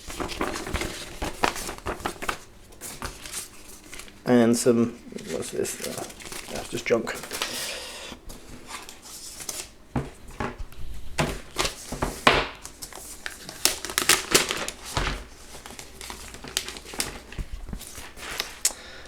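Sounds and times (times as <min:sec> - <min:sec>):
packaging crinkling and rustling: 0:00.0 - 0:18.7.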